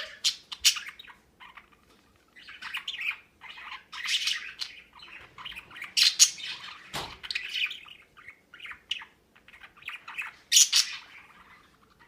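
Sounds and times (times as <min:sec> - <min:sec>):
budgerigar chirping: 0:00.0 - 0:12.0.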